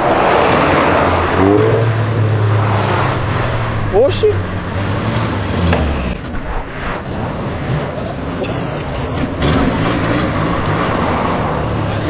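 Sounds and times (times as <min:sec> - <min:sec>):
cars driving past slowly: 0:00.0 - 0:12.0.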